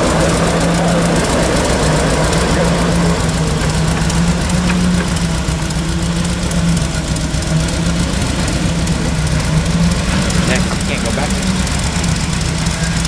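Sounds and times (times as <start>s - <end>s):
petrol engine humming: 0.0s - 13.0s.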